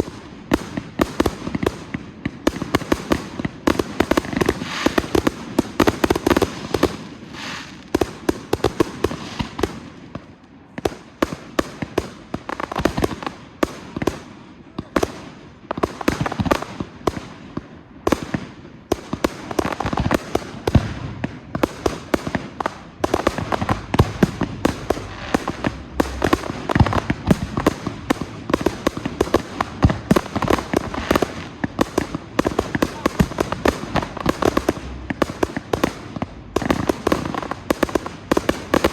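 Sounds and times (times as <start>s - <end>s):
fireworks bangs and cracks: 0.0s - 38.9s
hissing crackle of fireworks: 0.0s - 38.9s.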